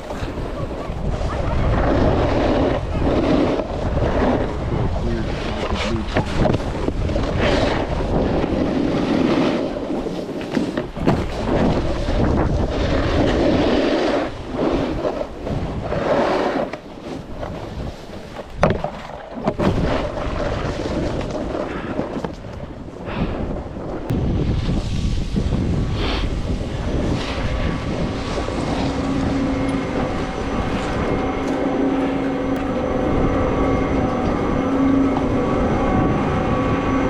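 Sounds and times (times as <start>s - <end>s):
snowboard scraping over snow: 0.0s - 37.0s
wind buffeting microphone: 0.0s - 37.0s.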